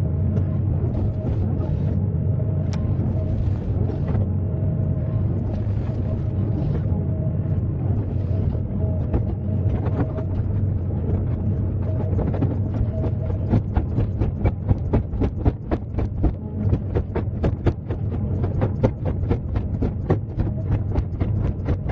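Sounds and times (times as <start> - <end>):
diesel engine humming: 0.0 - 21.9.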